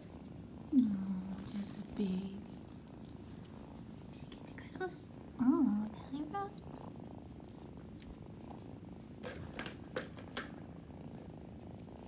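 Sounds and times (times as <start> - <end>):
kitten purring: 0.0 - 12.0.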